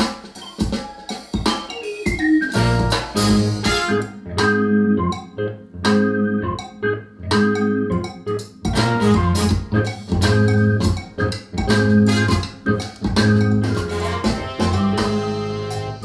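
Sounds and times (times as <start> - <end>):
music through loudspeakers: 0.0 - 16.0.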